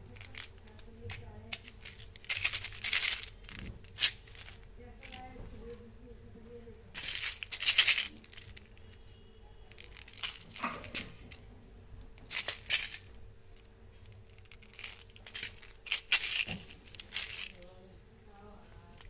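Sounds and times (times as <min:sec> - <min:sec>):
plastic tubes crinkling: 0:00.0 - 0:05.8, 0:06.9 - 0:17.8, 0:18.7 - 0:19.0
faint steady hum: 0:00.0 - 0:19.0.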